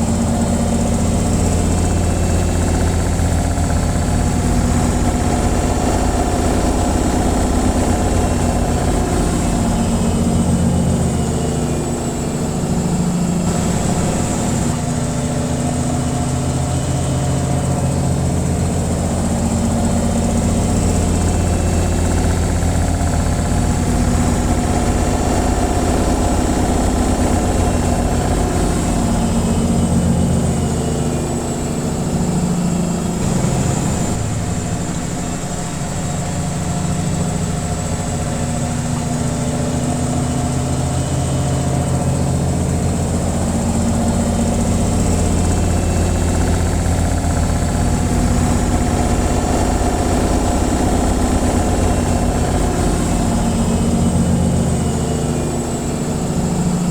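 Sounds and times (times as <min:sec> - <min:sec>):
washing machine spin cycle: 0:00.0 - 0:56.9.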